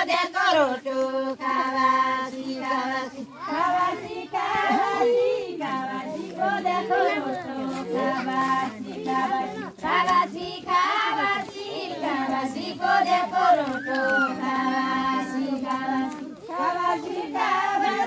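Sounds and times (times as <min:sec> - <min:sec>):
women singing folk song together: 0:00.0 - 0:18.0.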